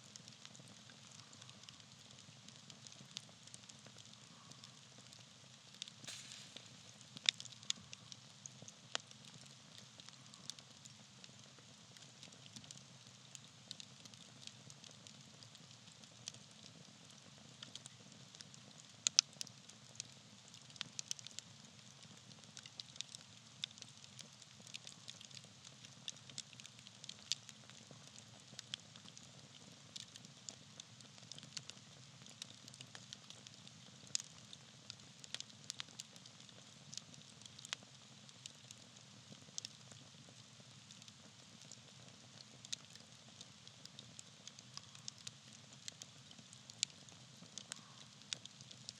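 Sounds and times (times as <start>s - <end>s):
faint steady hiss: 0.0s - 48.9s
campfire crackling and popping: 0.1s - 48.9s.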